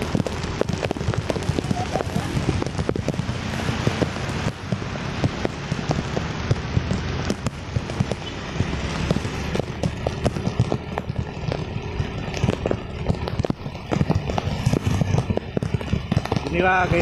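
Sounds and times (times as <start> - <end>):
hiss of rain and wet tyres: 0.0 - 17.0
raindrops tapping microphone: 0.0 - 17.0.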